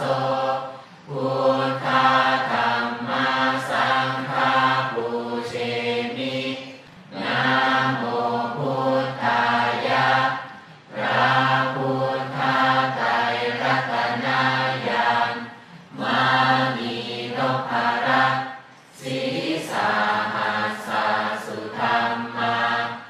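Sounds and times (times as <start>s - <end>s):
group of voices chanting: 0.0s - 23.0s.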